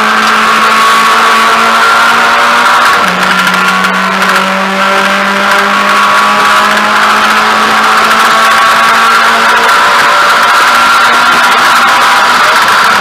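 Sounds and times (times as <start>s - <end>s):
car engine accelerating: 0.0s - 13.0s
wind and road noise: 0.0s - 13.0s.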